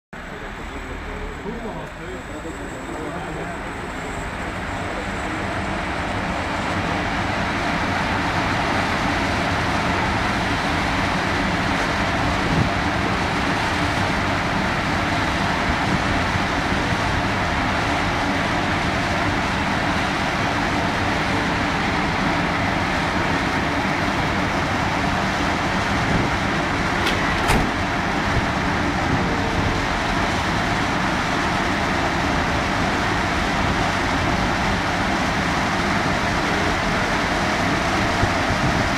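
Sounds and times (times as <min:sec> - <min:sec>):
diesel engine on dynamometer: 0:00.2 - 0:38.9.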